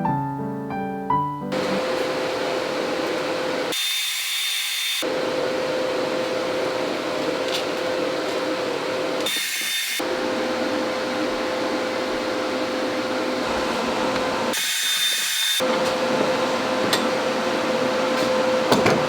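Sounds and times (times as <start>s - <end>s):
angle grinder cutting steel: 1.6s - 18.6s.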